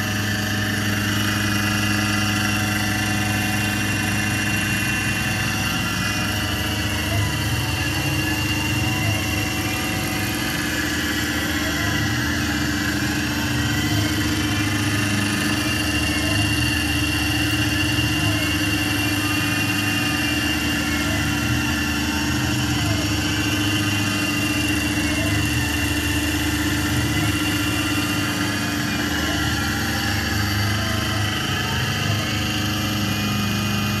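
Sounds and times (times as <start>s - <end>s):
milling machine hum with whine: 0.0s - 34.0s.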